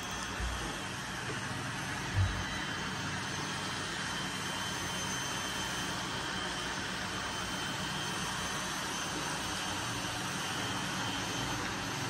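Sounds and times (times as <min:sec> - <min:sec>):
faint high whines: 0:00.0 - 0:12.0.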